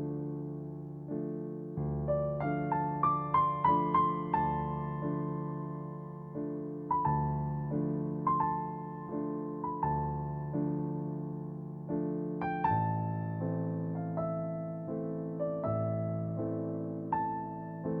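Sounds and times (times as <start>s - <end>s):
slow calm piano music: 0.0s - 18.0s.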